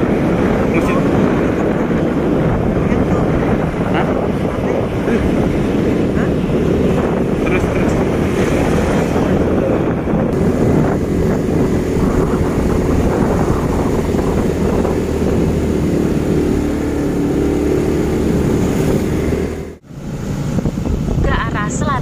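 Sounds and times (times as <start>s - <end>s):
motorcycle engine running: 0.0s - 19.8s
wind buffeting microphone: 0.0s - 22.0s.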